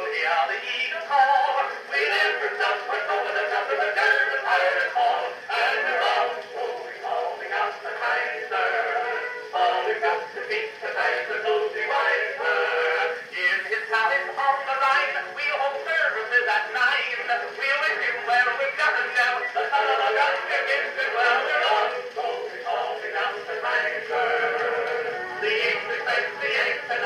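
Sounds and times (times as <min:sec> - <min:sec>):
old song with singing: 0:00.0 - 0:27.0.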